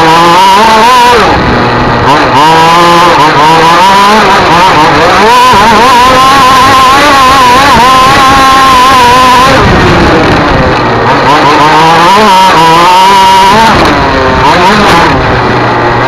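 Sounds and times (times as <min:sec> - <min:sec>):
racing engine at full throttle: 0:00.0 - 0:16.0.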